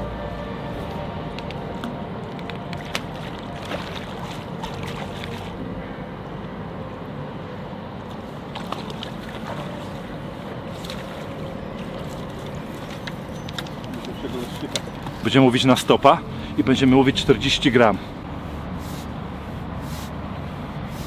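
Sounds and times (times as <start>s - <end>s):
river water rushing: 0.0s - 6.3s, 7.4s - 20.3s
wind: 0.0s - 21.0s.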